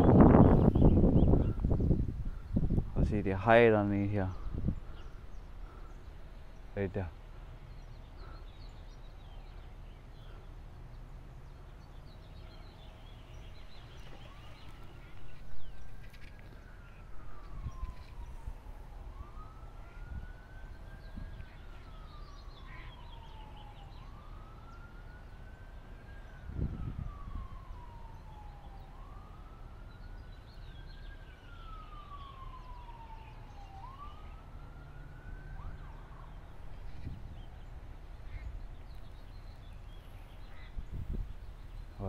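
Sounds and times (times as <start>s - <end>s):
faint siren wailing: 0.0s - 42.0s.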